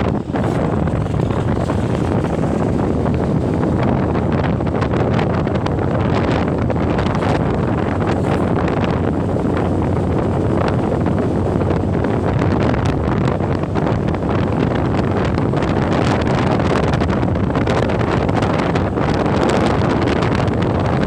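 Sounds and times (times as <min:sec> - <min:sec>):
wind crackles: 0:00.0 - 0:21.0
wind rushing over microphone: 0:00.0 - 0:21.0.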